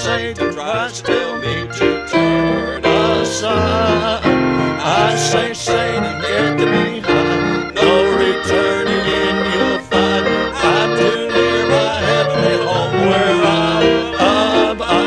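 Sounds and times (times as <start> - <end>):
gospel band playing a hymn: 0.0 - 15.0.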